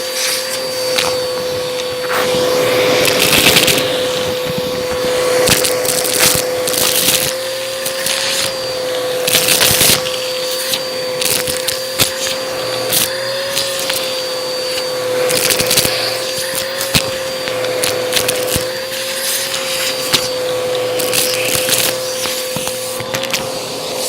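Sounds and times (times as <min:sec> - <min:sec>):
vacuum cleaner motor whine: 0:00.0 - 0:24.0.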